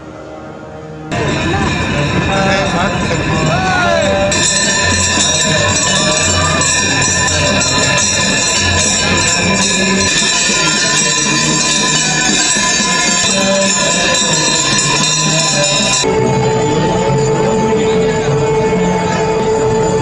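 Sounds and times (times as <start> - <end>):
devotional music: 0.0 - 20.0
bells ringing: 1.1 - 20.0.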